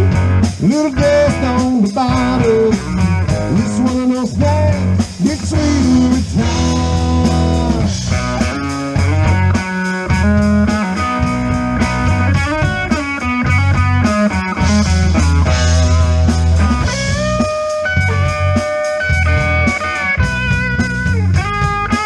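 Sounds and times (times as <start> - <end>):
country-rock band playing: 0.0 - 22.0
electric guitar lead: 0.0 - 22.0.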